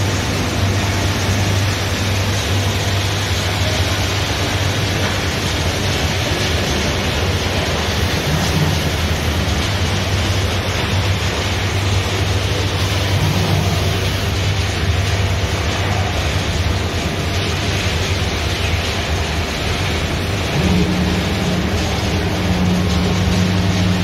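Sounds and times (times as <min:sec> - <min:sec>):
woodworking machinery running: 0:00.0 - 0:24.0.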